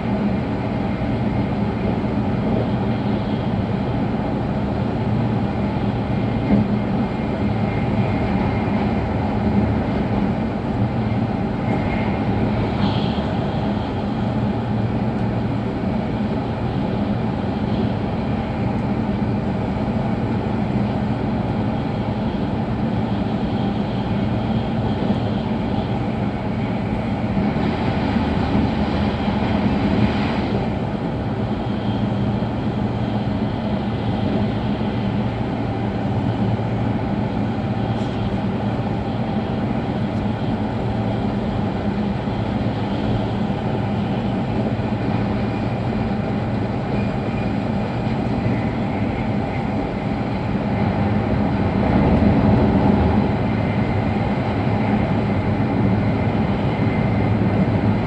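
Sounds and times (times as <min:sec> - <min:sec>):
train running at speed rumble: 0:00.0 - 0:58.0.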